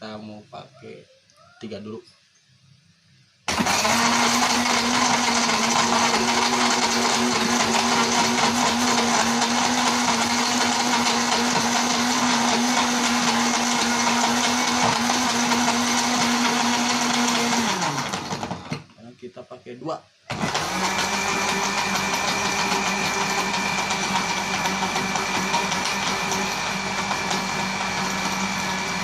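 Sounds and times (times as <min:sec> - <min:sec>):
blender blending ice: 0:03.5 - 0:18.9, 0:20.3 - 0:29.0.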